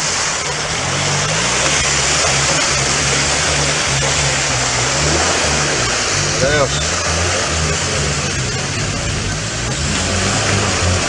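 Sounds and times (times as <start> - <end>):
low engine drone: 0.0 - 11.0
tyres churning and splashing mud: 0.0 - 11.0.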